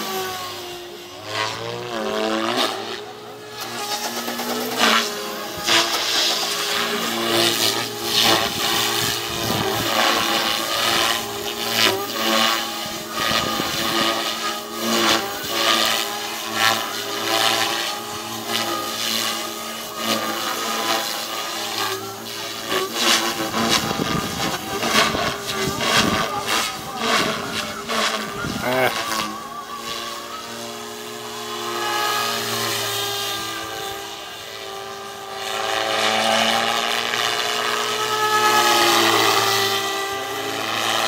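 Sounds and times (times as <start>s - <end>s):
model helicopter drone: 0.0s - 41.0s
rotor blades whooshing: 0.0s - 41.0s.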